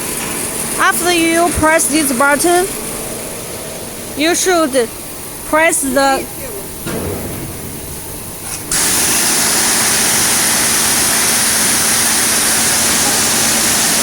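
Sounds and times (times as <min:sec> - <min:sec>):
high-pressure water jet hissing: 0:00.0 - 0:14.0
pump humming: 0:00.0 - 0:14.0.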